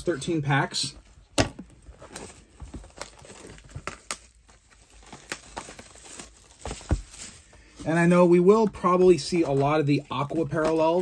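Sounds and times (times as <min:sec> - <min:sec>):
wrappers clicking and crinkling: 0:01.6 - 0:11.0.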